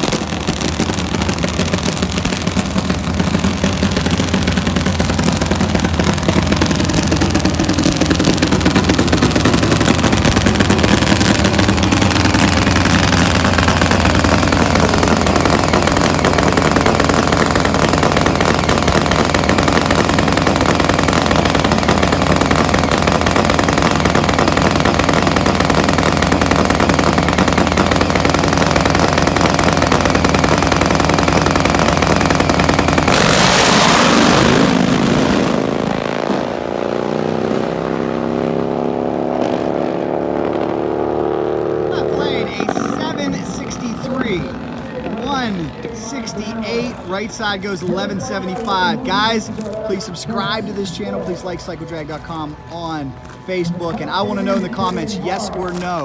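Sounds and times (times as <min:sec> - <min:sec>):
motorcycle engines running loudly: 0:00.0 - 0:56.0.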